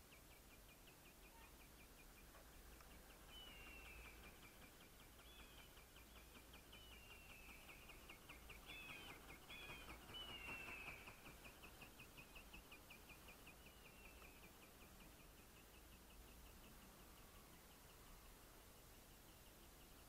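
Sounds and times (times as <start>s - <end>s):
faint high chirping: 0.0s - 20.0s.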